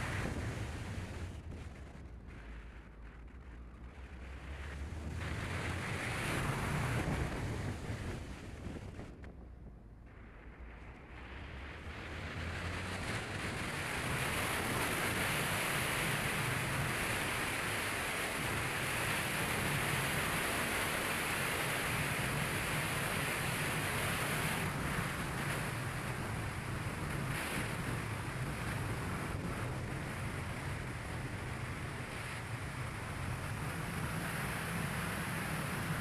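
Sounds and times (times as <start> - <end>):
wind and tyre noise: 0.0 - 36.0.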